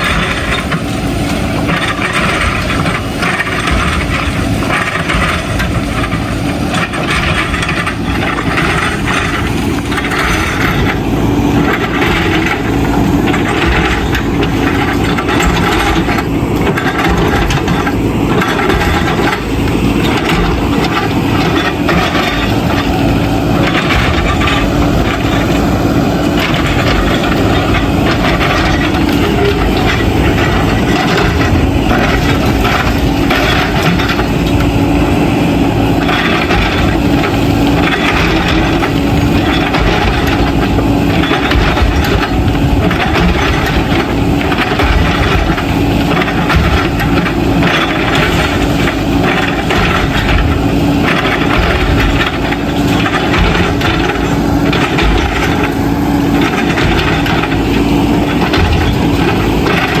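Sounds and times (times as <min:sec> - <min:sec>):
diesel engine running: 0:00.0 - 1:00.0
bricks and stones clattering: 0:01.6 - 0:35.0, 0:35.6 - 1:00.0.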